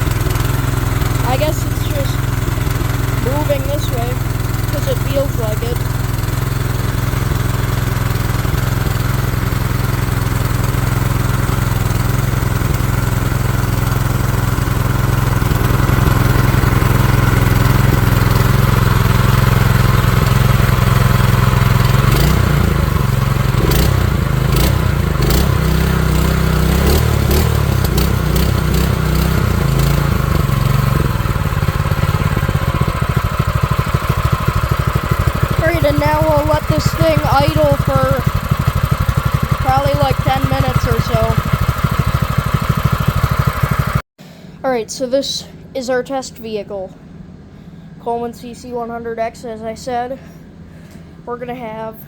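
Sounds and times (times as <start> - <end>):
small engine running at full throttle: 0.0 - 44.1.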